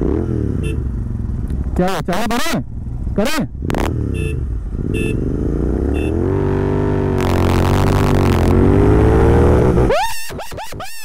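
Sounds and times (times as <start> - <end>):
motorcycles accelerating: 0.0 - 10.8.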